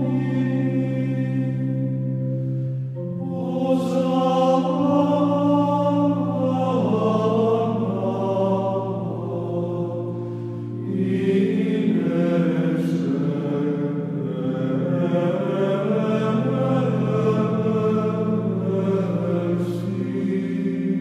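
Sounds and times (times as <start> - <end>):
slow vocal chant: 0.0 - 21.0
steady low drone: 0.0 - 21.0.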